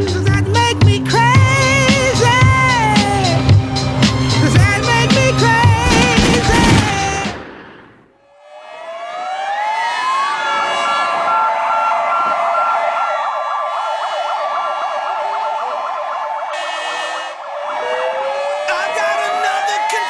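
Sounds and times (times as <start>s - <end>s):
emergency sirens wailing: 0.0s - 20.0s.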